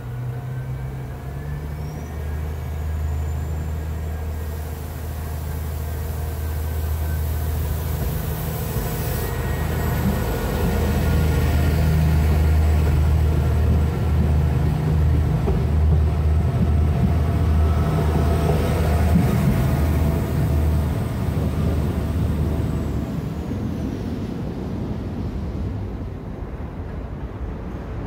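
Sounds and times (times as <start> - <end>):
train engine and wheels rumbling: 0.0 - 28.0.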